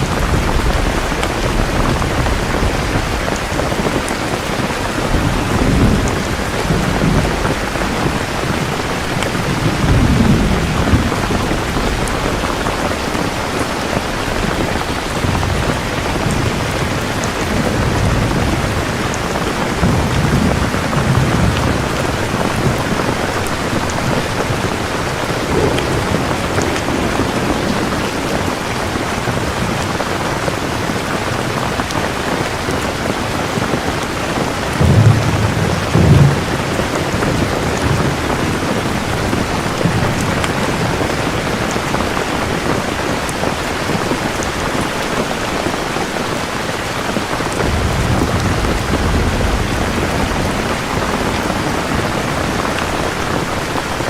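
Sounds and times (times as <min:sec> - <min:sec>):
low thunder rumble: 0:00.0 - 0:45.9, 0:47.4 - 0:54.0
heavy rain: 0:00.0 - 0:54.0
thunder clap: 0:00.0 - 0:54.0.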